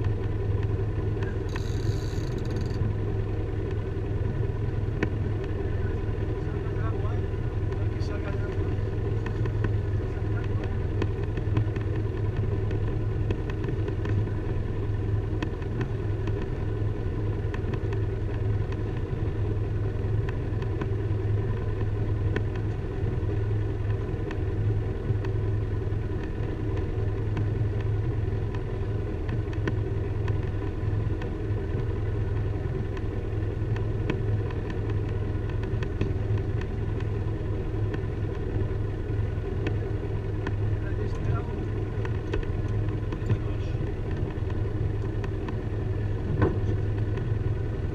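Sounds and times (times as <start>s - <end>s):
motorboat engine running: 0.0s - 47.9s.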